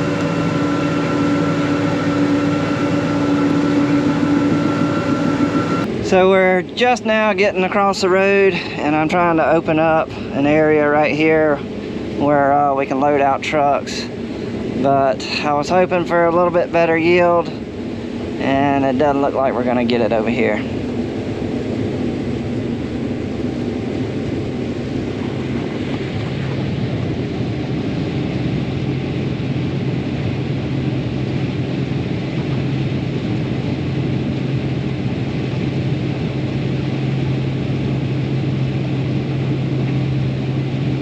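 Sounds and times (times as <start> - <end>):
combine harvester drone: 0.0 - 41.0.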